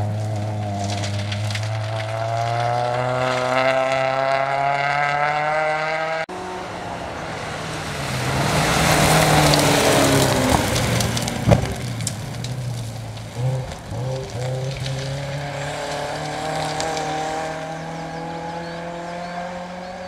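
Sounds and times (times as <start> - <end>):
rally car engine accelerating: 0.0 - 20.0
rally car engine approaching: 0.0 - 20.0.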